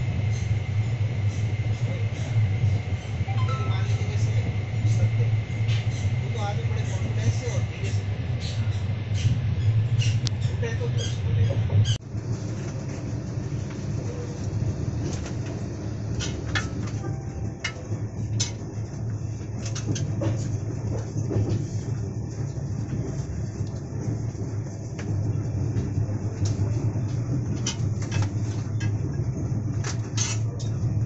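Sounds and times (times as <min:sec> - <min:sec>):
train low rumble: 0:00.0 - 0:31.0
train wheels clicking and clattering: 0:04.2 - 0:31.0.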